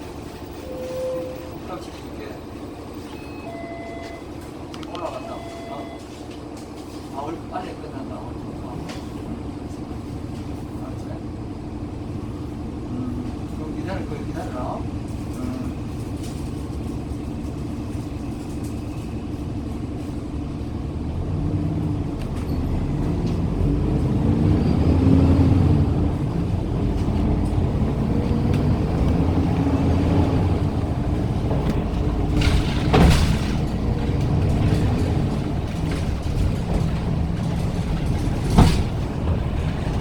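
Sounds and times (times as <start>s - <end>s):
bus engine running: 0.0s - 40.0s.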